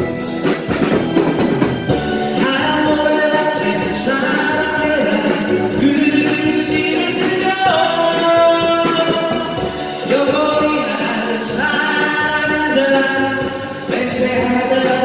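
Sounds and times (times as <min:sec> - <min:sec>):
drum beat with cymbal ticks: 0:00.0 - 0:15.0
keyboard melody: 0:00.0 - 0:15.0.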